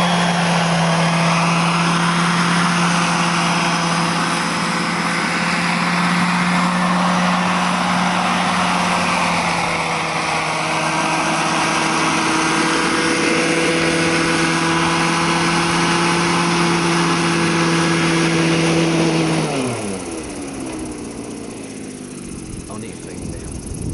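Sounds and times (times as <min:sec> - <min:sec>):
helicopter running: 0:00.0 - 0:23.9.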